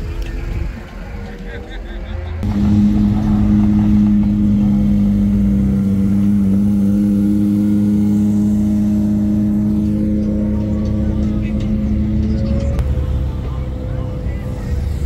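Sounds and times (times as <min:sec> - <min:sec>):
car engine running loud: 0:02.4 - 0:15.0.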